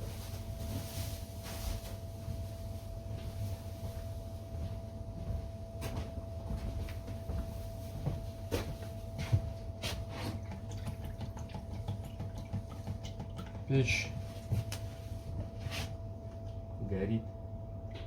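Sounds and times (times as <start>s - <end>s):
faint constant whine: 0.0s - 18.0s.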